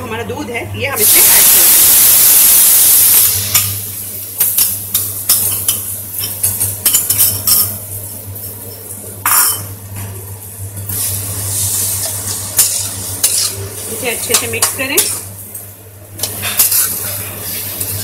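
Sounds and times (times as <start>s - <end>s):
light sizzle from hot pan: 1.0s - 18.0s.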